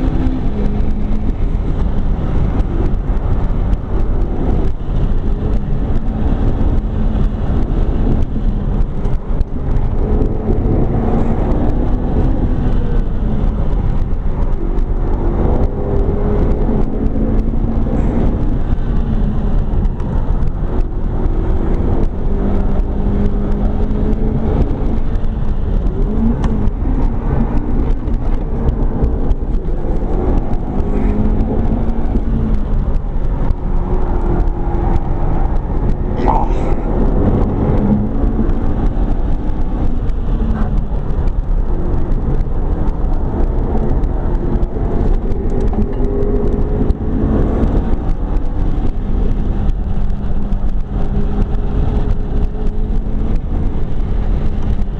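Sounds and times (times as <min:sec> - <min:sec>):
car engine revving: 0:00.0 - 0:54.9
road and wind noise: 0:00.0 - 0:54.9.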